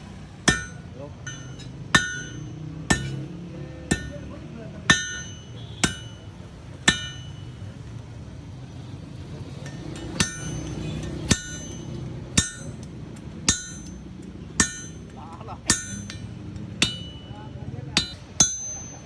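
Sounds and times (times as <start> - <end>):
hammer ringing on anvil: 0.4 - 4.3, 4.9 - 7.6, 9.5 - 12.9, 13.5 - 19.0.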